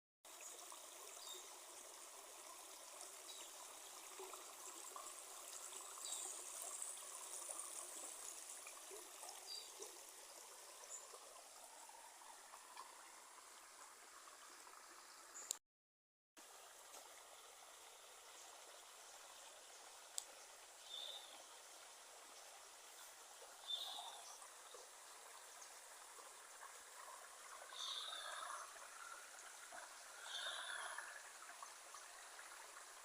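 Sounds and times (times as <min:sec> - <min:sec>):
running water rushing: 0:00.3 - 0:15.6, 0:16.4 - 0:33.0.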